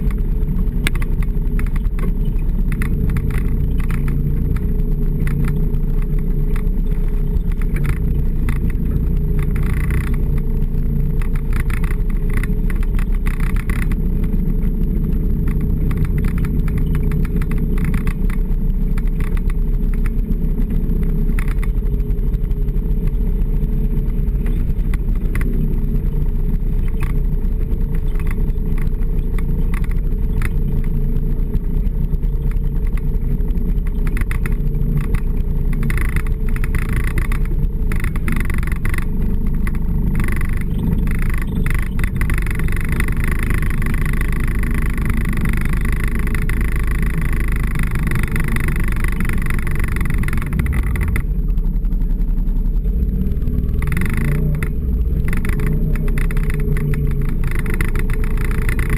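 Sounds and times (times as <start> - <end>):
light rattles and clicks: 0.0 - 58.9
snowmobile engine cruising: 0.0 - 58.9.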